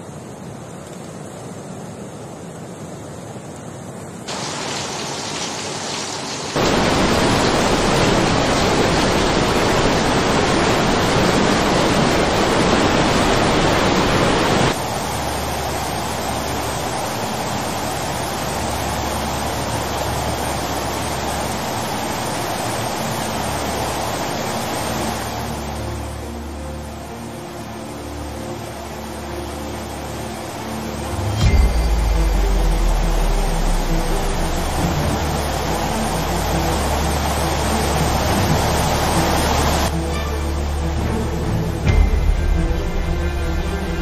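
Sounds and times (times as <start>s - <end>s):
floodwater rushing and churning: 0.0s - 44.0s.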